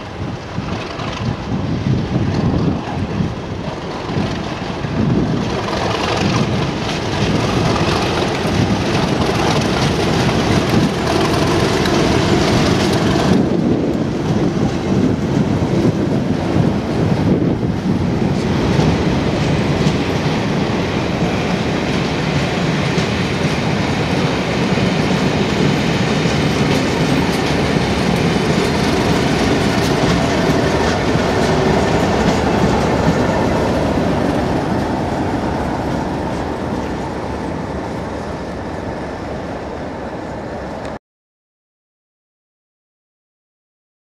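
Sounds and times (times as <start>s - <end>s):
train wheels clattering over rail joints: 0.0s - 37.0s
diesel locomotive passing: 0.0s - 41.0s.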